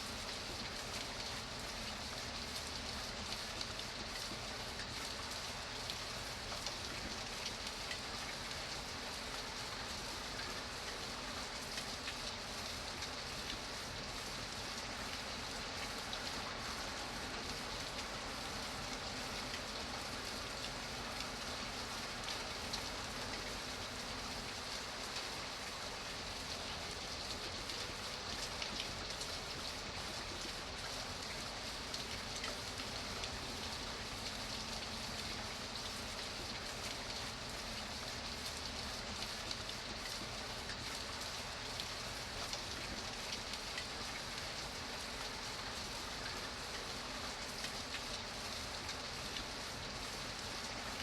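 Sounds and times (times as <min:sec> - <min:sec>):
steady rain hiss: 0:00.0 - 0:51.0
rain drops ticking: 0:00.1 - 0:51.0.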